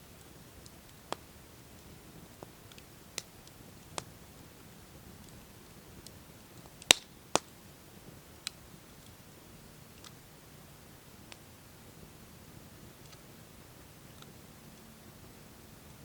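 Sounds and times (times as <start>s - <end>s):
campfire crackling and popping: 0.0s - 16.0s
faint steady background noise: 0.0s - 16.0s.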